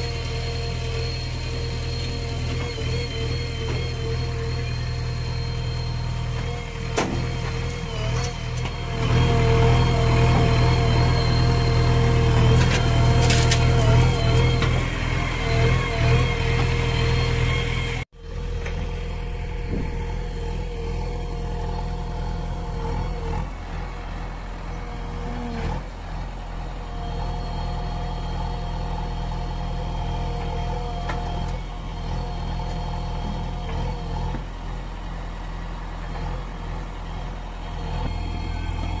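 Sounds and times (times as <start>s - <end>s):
diesel engines idling: 0.0s - 39.0s.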